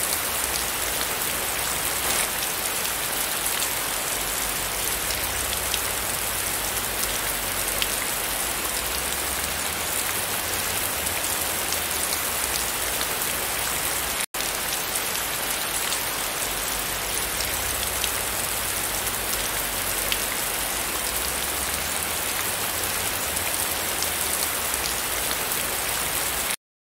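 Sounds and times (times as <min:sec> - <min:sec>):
heavy rain falling: 0:00.0 - 0:26.6.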